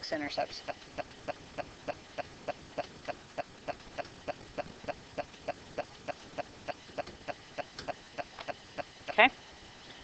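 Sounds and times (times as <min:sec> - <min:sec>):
steady ticking: 0:00.4 - 0:09.2.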